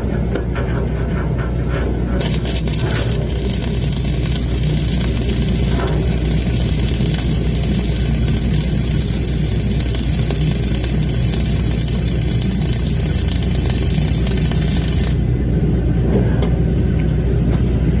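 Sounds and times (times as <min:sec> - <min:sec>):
engine running: 0:02.2 - 0:17.1.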